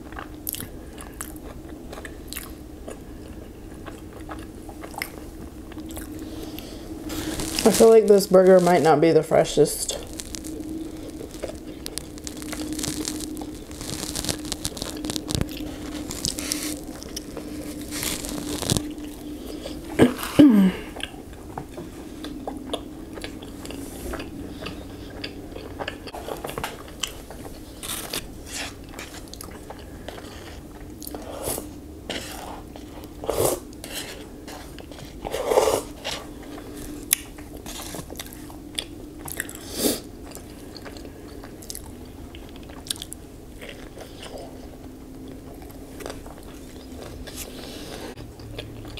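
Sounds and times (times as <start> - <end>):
chewing and biting food: 0.0 - 7.8, 9.9 - 20.3, 21.0 - 48.9.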